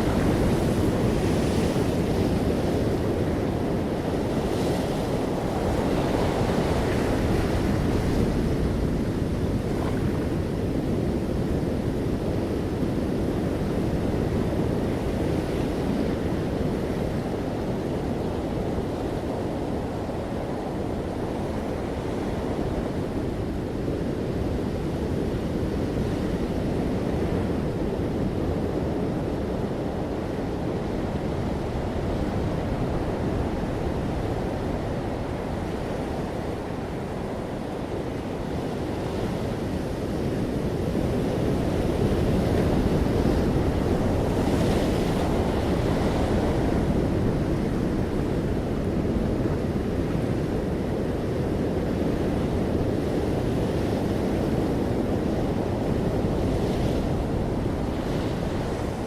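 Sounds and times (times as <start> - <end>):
ocean waves on shore: 0.0 - 59.0
wind on microphone: 0.0 - 59.0.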